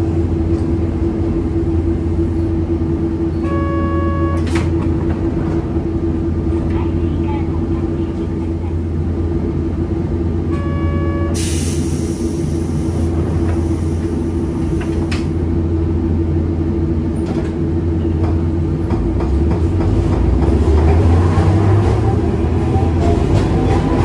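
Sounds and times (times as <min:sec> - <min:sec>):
tram equipment low hum: 0:00.0 - 0:24.0.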